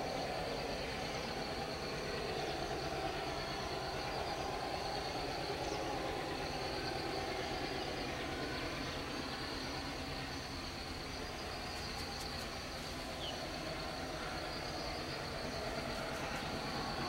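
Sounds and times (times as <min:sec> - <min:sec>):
distant train rumble: 0:00.0 - 0:17.0.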